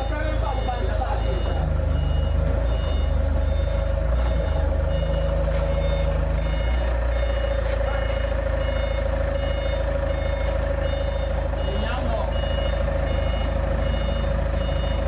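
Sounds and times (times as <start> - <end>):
diesel engine running: 0.0 - 15.0
reversing alarm beeping: 0.0 - 15.0.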